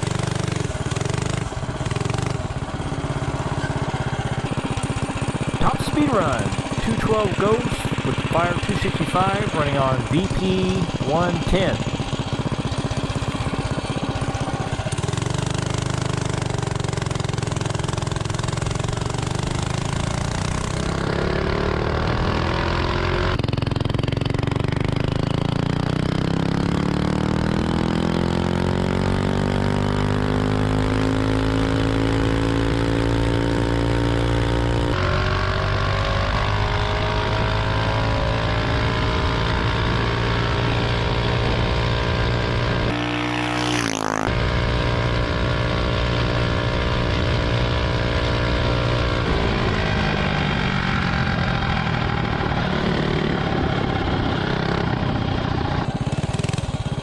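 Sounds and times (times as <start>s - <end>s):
mini bike engine revving: 0.0s - 57.0s.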